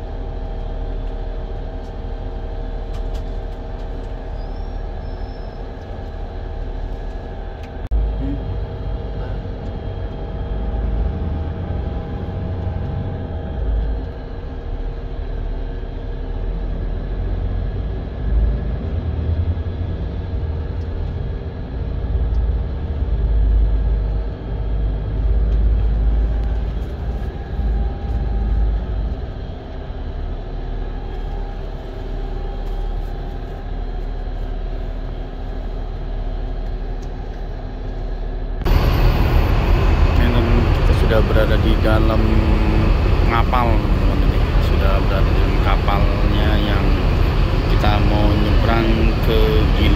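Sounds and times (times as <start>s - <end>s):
hum of steady tones: 0.0s - 49.9s
large vehicle engine rumbling: 0.0s - 49.9s.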